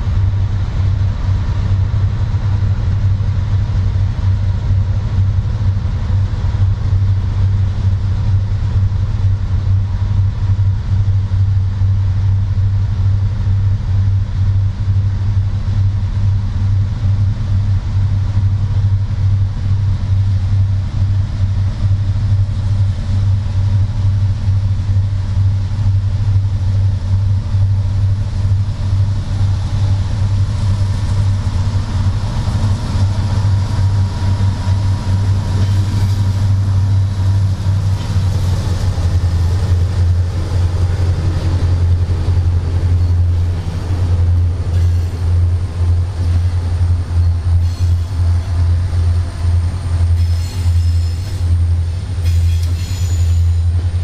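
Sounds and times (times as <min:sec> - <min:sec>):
diesel locomotive engine drone: 0:00.0 - 0:54.0
rail and wheel noise: 0:00.0 - 0:54.0
thin steady whine: 0:00.0 - 0:54.0.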